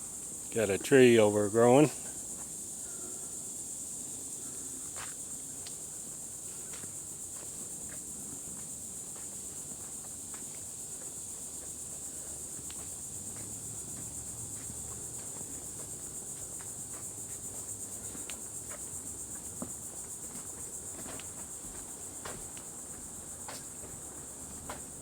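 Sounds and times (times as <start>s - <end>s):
insects buzzing trill: 0.0s - 25.0s.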